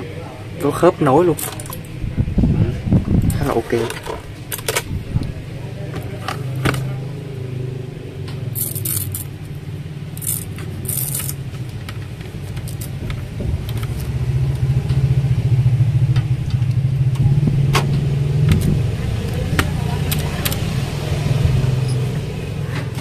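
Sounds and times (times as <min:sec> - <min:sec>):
low engine-like rumble: 0:00.0 - 0:23.0.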